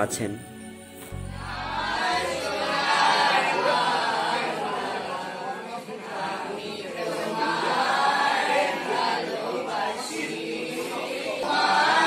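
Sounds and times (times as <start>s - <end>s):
children's choir singing: 1.1s - 12.0s.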